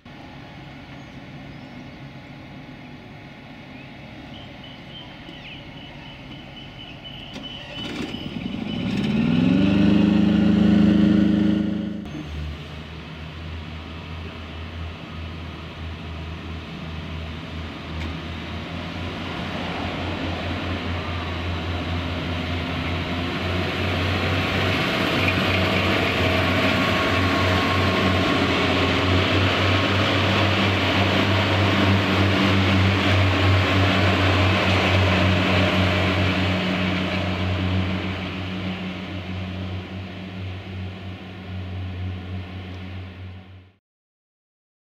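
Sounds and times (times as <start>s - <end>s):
train diesel engines humming: 0.0s - 43.8s.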